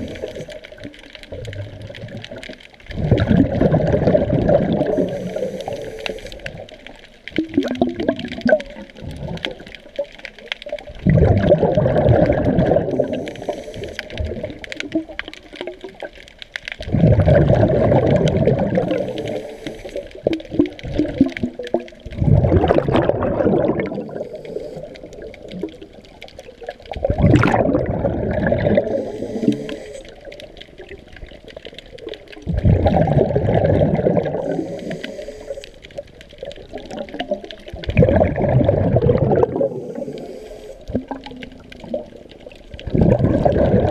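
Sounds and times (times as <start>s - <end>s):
underwater breath bubbles: 0.0s - 16.1s, 16.8s - 43.9s
water noise: 0.0s - 43.9s.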